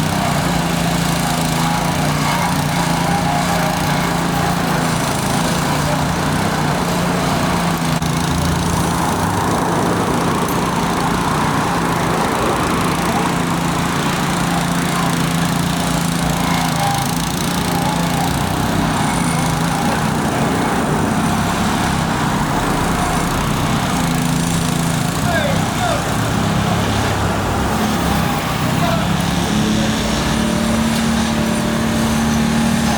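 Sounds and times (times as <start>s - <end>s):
small construction machine engine: 0.0s - 32.9s.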